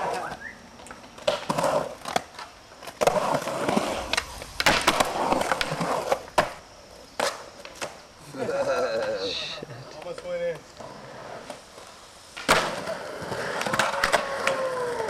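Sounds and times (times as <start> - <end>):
skateboard clacking on concrete: 0.0 - 8.0, 9.9 - 15.0
skateboard wheels rolling: 0.0 - 15.0.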